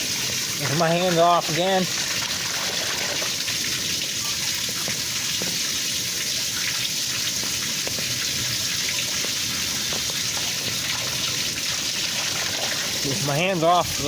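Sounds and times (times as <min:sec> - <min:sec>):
water rushing into drain: 0:00.0 - 0:14.0
water splashes and drips: 0:00.0 - 0:14.0.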